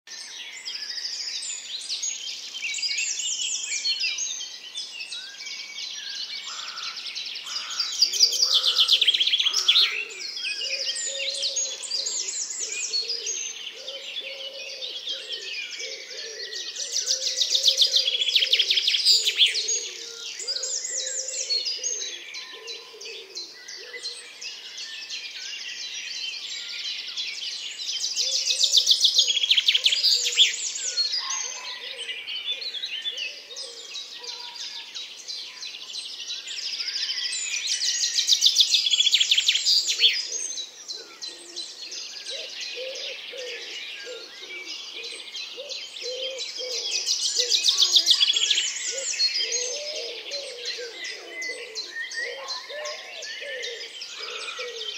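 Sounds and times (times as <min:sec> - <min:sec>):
woodland birds singing: 0:00.1 - 0:54.9.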